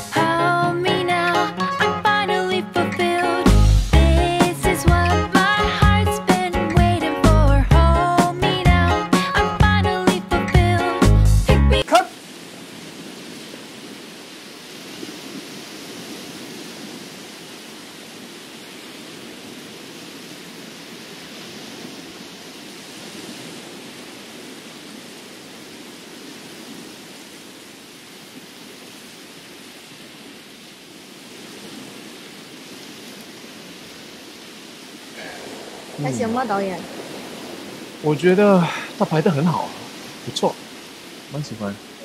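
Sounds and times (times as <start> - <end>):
sea surf breaking: 0.0 - 11.2, 11.8 - 42.0.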